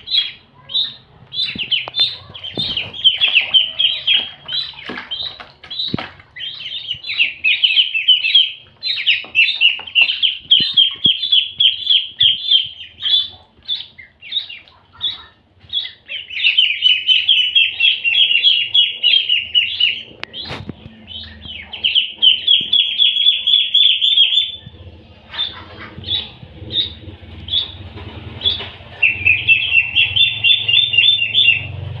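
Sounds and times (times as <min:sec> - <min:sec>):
ducklings peeping: 0:00.0 - 0:32.0.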